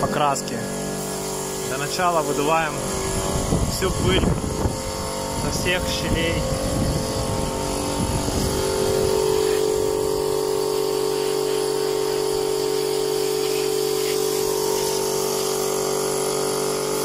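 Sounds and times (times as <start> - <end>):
air compressor humming: 0.0 - 17.0
compressed air hissing from hose: 0.8 - 17.0.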